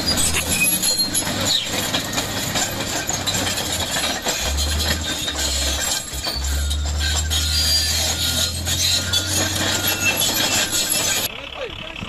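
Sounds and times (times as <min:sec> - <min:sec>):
steel tracks clattering: 0:00.0 - 0:11.3
bulldozer diesel engine: 0:00.0 - 0:12.0.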